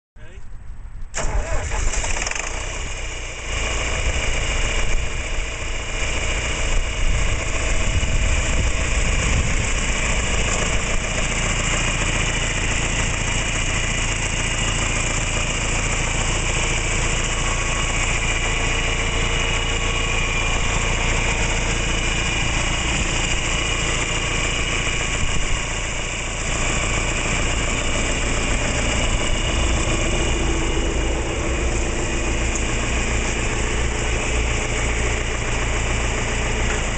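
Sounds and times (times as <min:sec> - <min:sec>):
diesel engine idling: 0:00.2 - 0:36.9.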